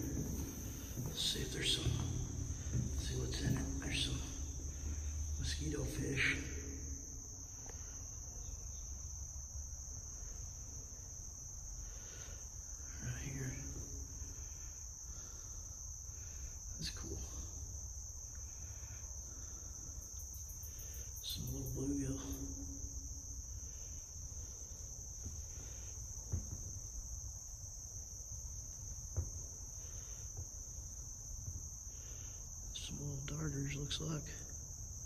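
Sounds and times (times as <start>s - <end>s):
insect chorus drone: 0.0s - 35.0s.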